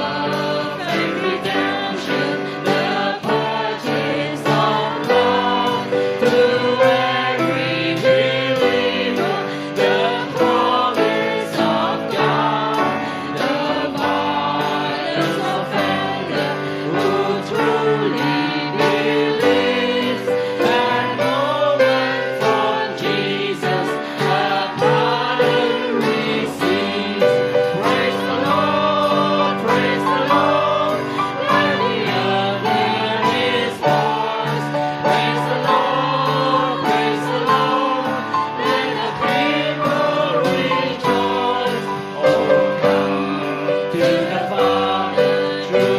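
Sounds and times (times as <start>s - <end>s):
congregation singing a hymn: 0.0s - 45.9s
drums with steady beat: 0.0s - 45.9s
piano: 0.0s - 45.9s.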